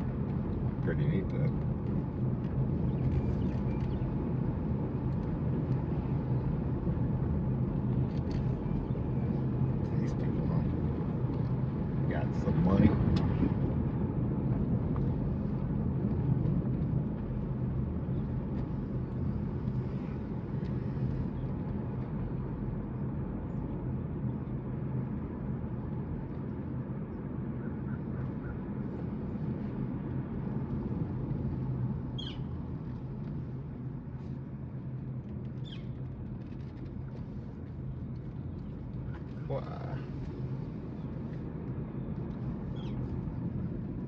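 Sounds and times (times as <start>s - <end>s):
road and engine noise in car: 0.0s - 44.0s.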